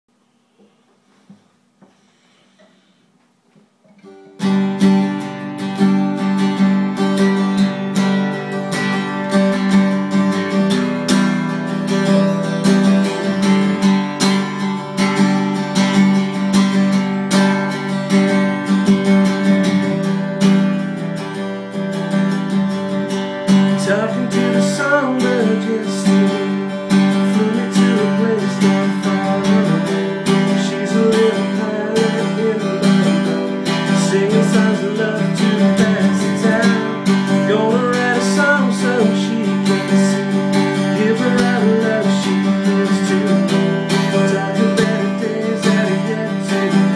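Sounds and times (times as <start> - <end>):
acoustic guitar playing: 0.3 - 46.9.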